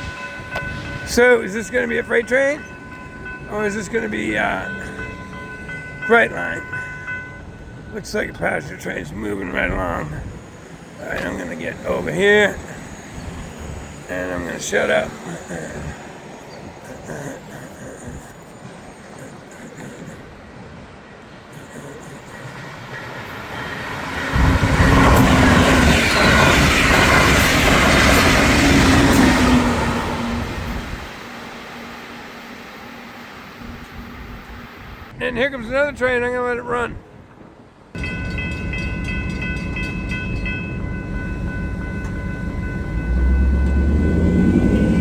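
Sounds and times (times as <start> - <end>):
train wheels rumbling on rail: 0.0 - 35.2, 37.3 - 45.0.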